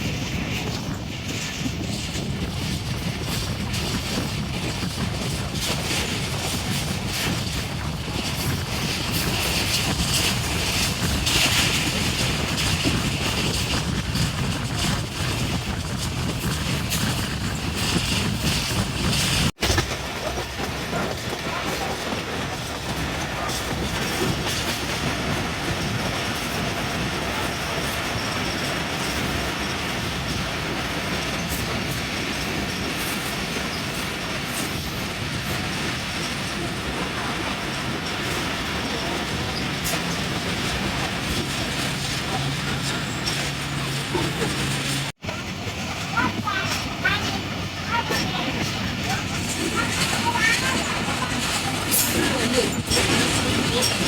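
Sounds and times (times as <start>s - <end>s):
train rumbling on rails: 0.0s - 54.0s
wheels clacking over track: 0.0s - 54.0s.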